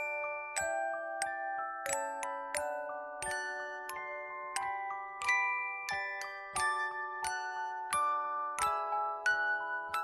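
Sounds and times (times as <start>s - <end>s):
tinkling glockenspiel melody: 0.0s - 10.0s.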